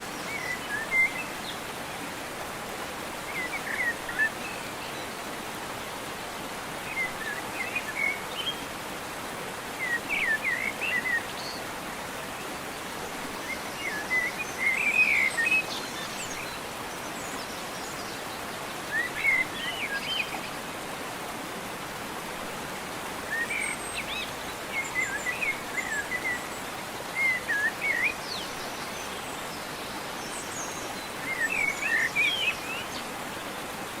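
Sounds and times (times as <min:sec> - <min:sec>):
outdoor ambience hiss: 0:00.0 - 0:34.0.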